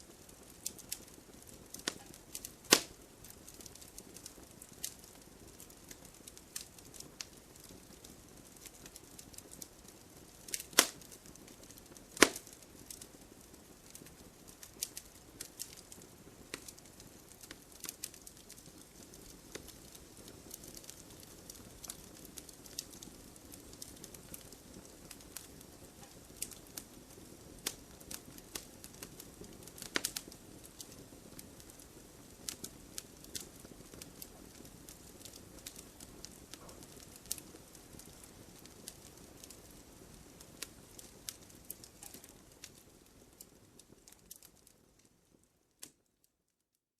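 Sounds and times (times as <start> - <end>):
firewood crackling and popping: 0.0 - 46.2
flames rushing: 0.1 - 44.4.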